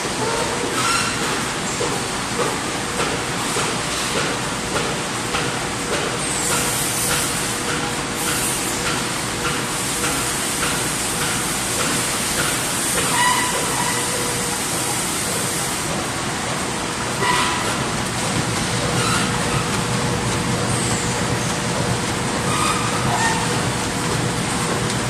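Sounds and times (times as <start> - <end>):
printing press mechanical din: 0.0 - 25.0.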